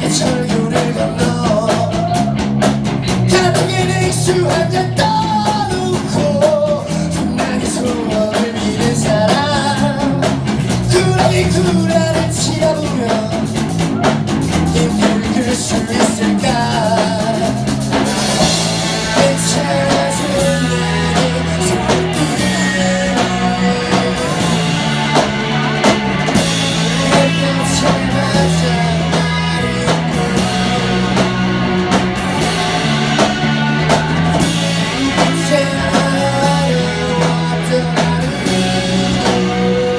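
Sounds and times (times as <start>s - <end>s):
live rock band playing: 0.0s - 39.9s
person singing: 0.0s - 39.9s.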